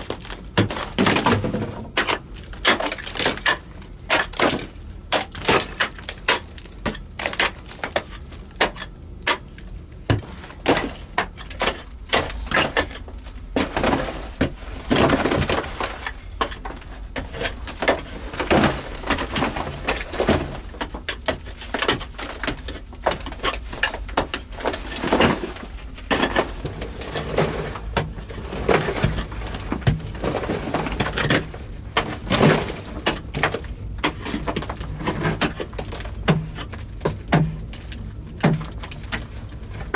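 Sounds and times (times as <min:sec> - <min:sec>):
broken rock falling: 0:00.0 - 0:39.9
rock being chipped and scraped: 0:00.0 - 0:39.9.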